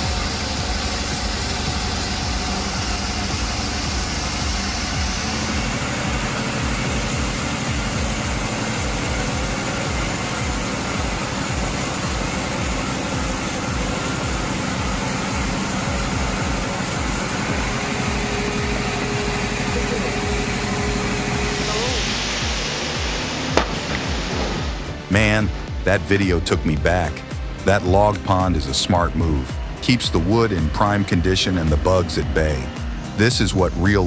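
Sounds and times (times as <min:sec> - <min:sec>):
high hiss: 0:00.0 - 0:34.0
sawmill machinery running: 0:00.0 - 0:34.0.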